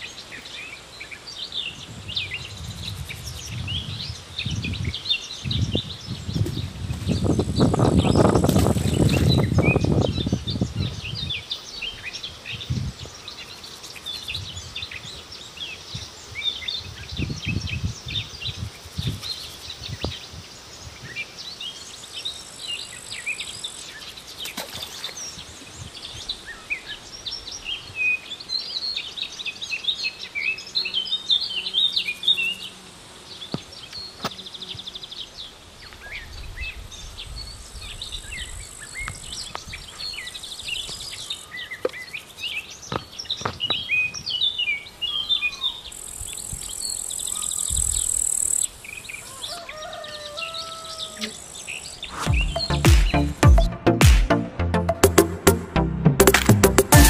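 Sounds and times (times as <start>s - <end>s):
small birds chirping: 0.0s - 53.7s.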